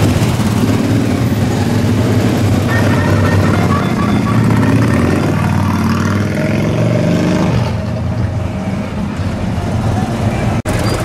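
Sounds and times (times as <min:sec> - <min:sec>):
motorcycles riding past: 0:00.0 - 0:09.2.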